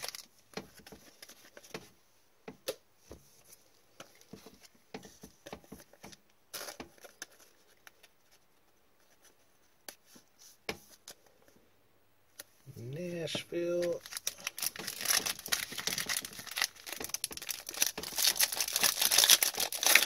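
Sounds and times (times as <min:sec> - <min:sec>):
cards and wrappers rustling: 0:00.0 - 0:02.0, 0:03.1 - 0:11.6, 0:12.4 - 0:20.0.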